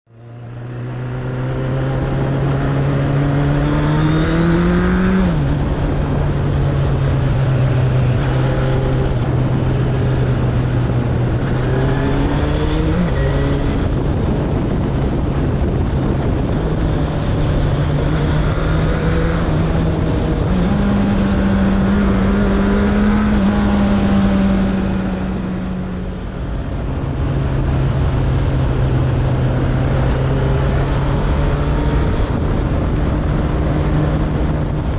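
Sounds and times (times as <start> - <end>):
wind and road noise: 0.1 - 34.9.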